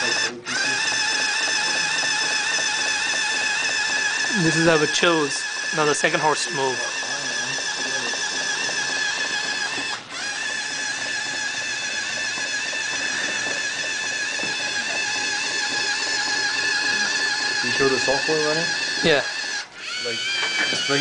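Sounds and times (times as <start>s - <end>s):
motor drive whining: 0.0s - 21.0s.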